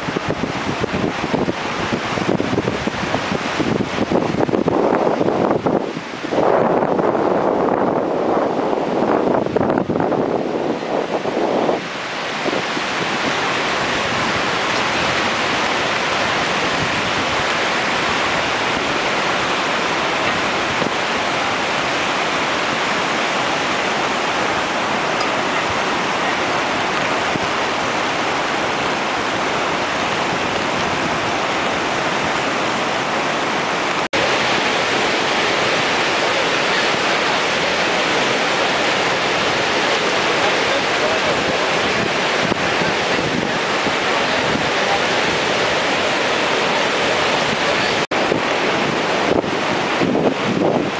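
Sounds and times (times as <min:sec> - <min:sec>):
storm surf breaking: 0:00.0 - 0:50.9
wind buffeting microphone: 0:00.0 - 0:50.9.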